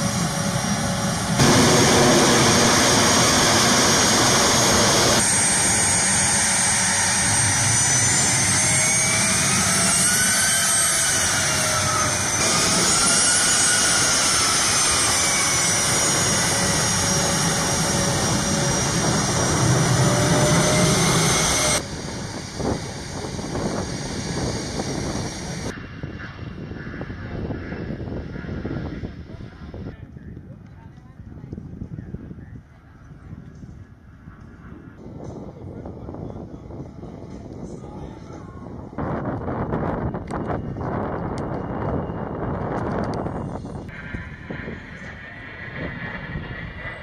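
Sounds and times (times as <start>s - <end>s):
jet engine whine: 0.0s - 30.6s, 31.7s - 47.0s.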